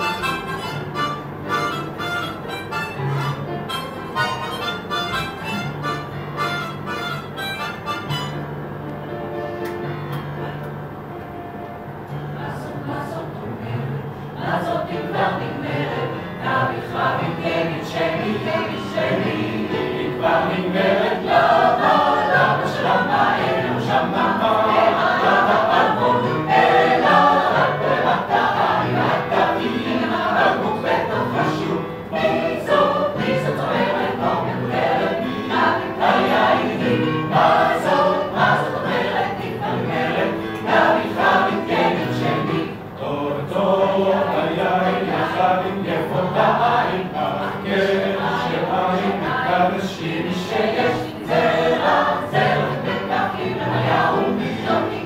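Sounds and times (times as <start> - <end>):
mixed choir singing: 0.0 - 6.1, 12.4 - 55.0.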